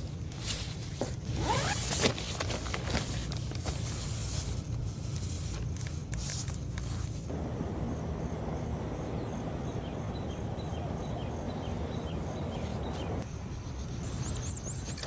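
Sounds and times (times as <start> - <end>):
steady low rumble: 2.6 - 14.7.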